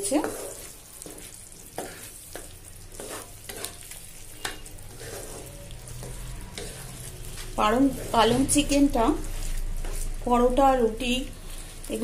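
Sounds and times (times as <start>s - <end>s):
spatula scraping a pan: 0.0s - 10.6s
food sizzling softly: 0.0s - 12.0s.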